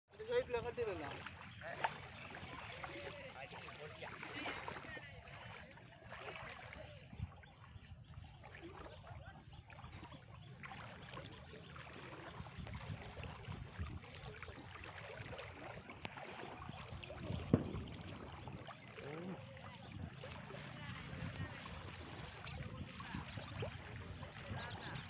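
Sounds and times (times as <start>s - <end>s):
faint trickle of floodwater: 0.1s - 25.0s.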